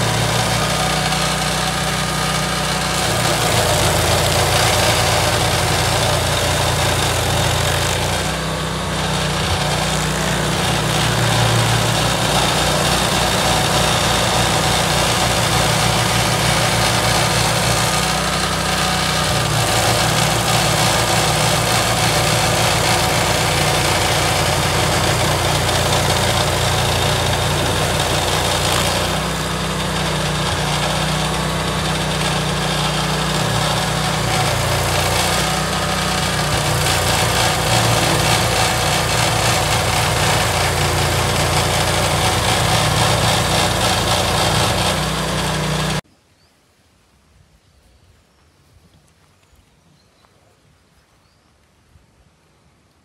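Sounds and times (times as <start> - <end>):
cutter wheel grinding wood: 0.0 - 46.0
engine running: 0.0 - 46.0.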